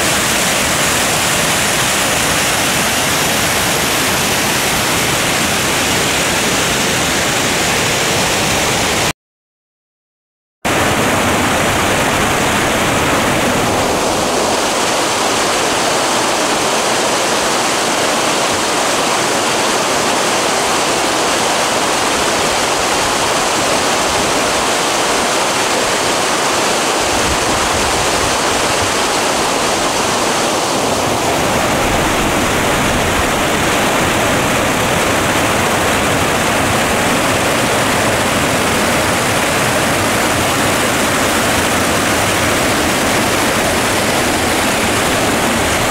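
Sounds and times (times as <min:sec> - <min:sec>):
waterfall rushing: 0:00.0 - 0:09.1, 0:10.7 - 0:45.9.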